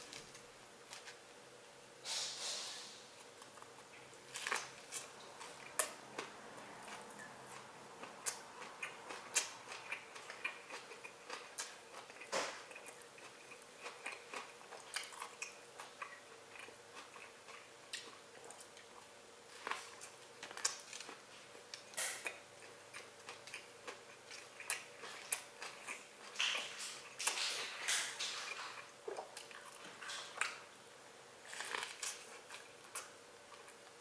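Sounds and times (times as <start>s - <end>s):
person chewing a sandwich: 3.2s - 30.8s, 31.4s - 34.0s.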